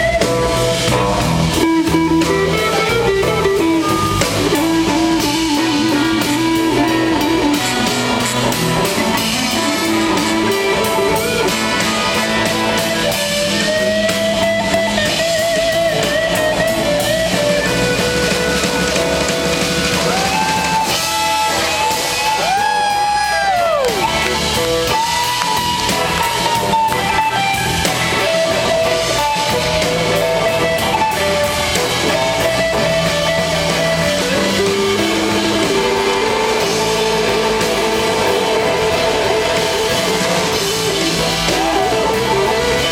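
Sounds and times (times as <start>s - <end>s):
bass guitar: 0.0s - 42.9s
drums: 0.0s - 42.9s
electric guitar lead: 0.0s - 42.9s.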